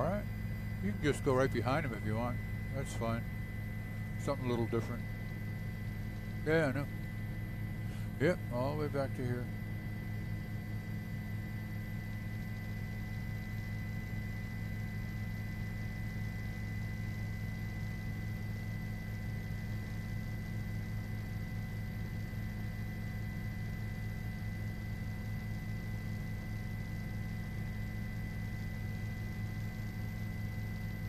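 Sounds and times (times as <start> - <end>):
high constant whine: 0.0 - 31.0
steady low hum: 0.0 - 31.0.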